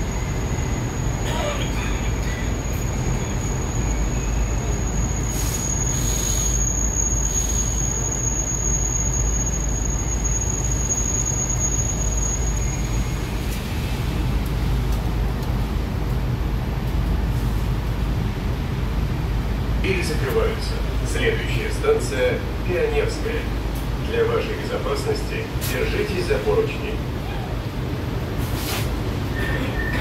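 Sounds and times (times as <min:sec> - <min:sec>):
train car low rumble: 0:00.0 - 0:30.0.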